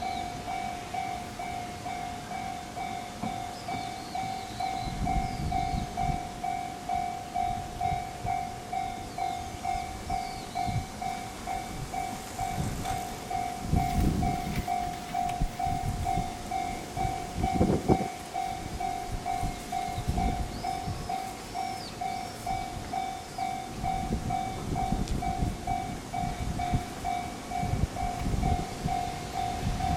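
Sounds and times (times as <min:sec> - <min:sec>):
level-crossing warning bell: 0:00.0 - 0:29.9
train rumbling over crossing: 0:00.0 - 0:29.9.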